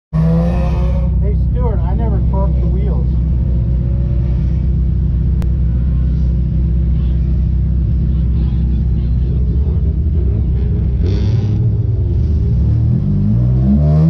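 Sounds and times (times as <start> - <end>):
race car engine idling: 0.4 - 13.5.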